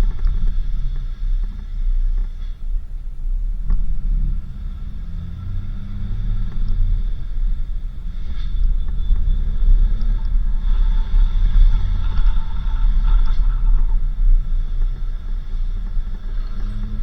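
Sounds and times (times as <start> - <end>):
vehicle rumbling on dirt road: 0.0 - 17.0.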